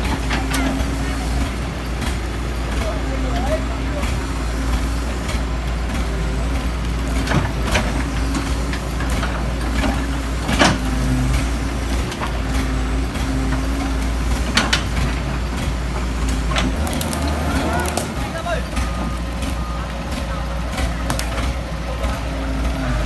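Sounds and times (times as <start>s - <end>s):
excavator diesel engine rumbling: 0.0s - 23.0s.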